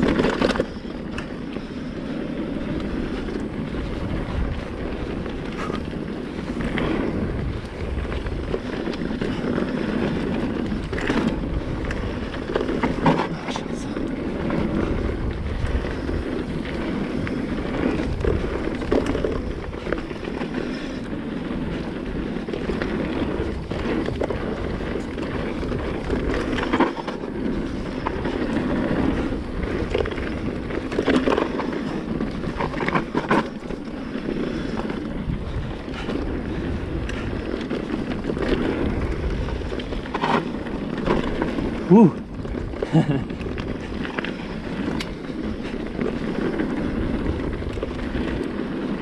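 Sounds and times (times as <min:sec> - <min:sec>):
bike rattling over bumps: 0:00.0 - 0:49.0
bike tyres rolling over loose stones: 0:00.0 - 0:49.0
wind buffeting microphone: 0:00.0 - 0:49.0.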